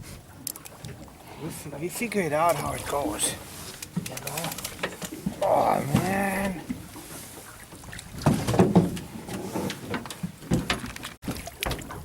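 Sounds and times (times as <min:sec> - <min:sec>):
knocks and thumps on boat: 0:02.0 - 0:12.0.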